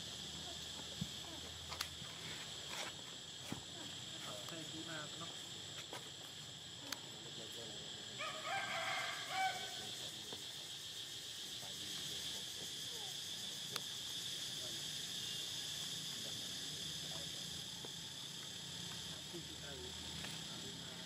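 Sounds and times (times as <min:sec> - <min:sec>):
insect chirring: 0:00.0 - 0:21.0.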